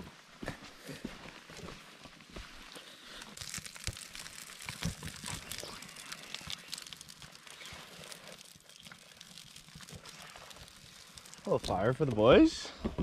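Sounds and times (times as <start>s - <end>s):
campfire crackling: 1.0s - 13.0s.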